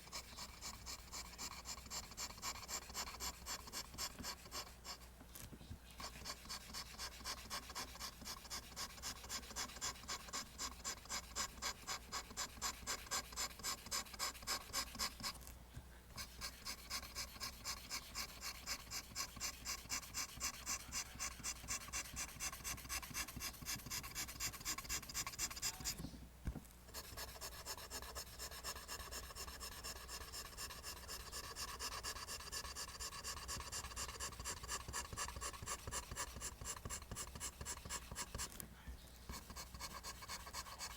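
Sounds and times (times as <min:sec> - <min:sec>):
pencil drawing on paper: 0:00.0 - 0:05.1, 0:06.0 - 0:15.4, 0:16.2 - 0:26.0, 0:26.9 - 0:38.6, 0:39.3 - 0:40.9.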